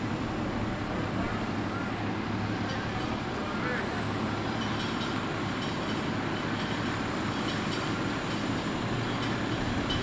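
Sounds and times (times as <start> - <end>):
diesel engines rumbling: 0.0 - 10.0.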